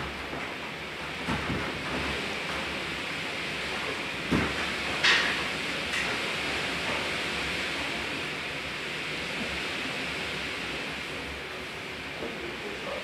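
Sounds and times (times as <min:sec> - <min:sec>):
tape hiss: 0:00.0 - 0:13.0.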